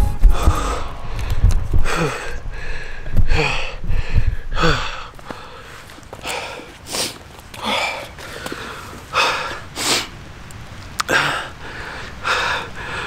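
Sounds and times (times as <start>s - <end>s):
man breathing hard: 0.2s - 10.1s, 11.1s - 13.0s.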